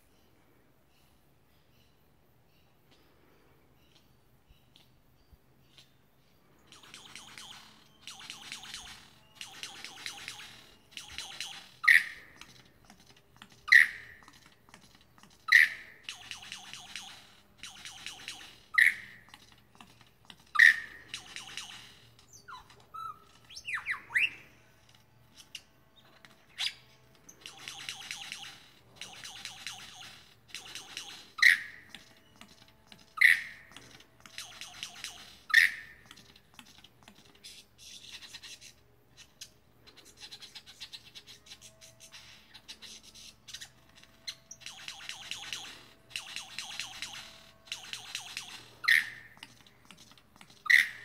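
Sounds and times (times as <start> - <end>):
lyrebird singing: 3.8 - 51.0
fast rattling bird chatter: 6.6 - 24.3, 26.2 - 51.0.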